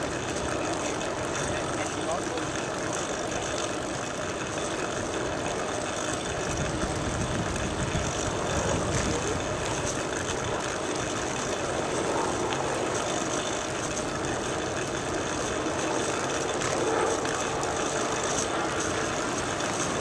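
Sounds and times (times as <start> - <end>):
bicycle tyres rolling: 0.0 - 20.0.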